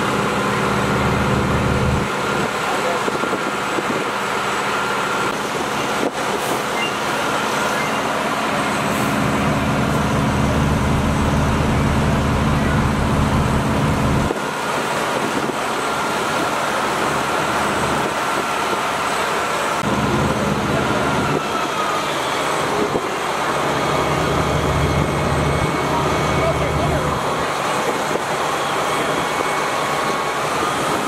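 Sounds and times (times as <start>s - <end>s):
fire engine driving past: 0.0s - 31.0s
heavy vehicle engine: 0.0s - 31.0s
street noise: 0.0s - 31.0s.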